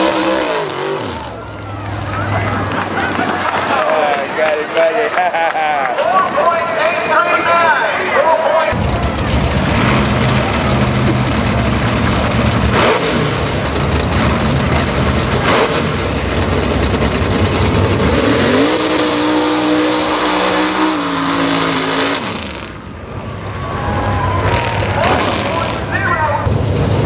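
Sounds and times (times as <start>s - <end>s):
truck engine revving: 0.0s - 8.0s, 8.7s - 27.0s.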